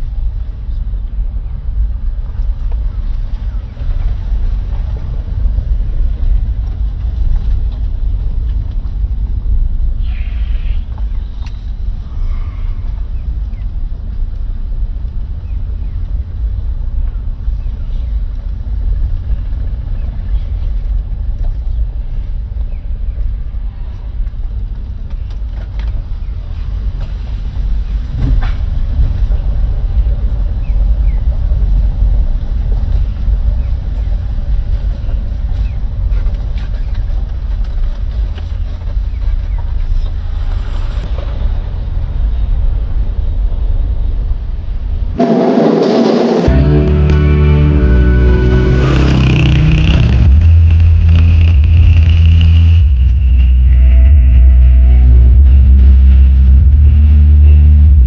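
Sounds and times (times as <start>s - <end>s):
car engine and tyres rumbling: 0.0s - 45.2s, 46.4s - 58.0s.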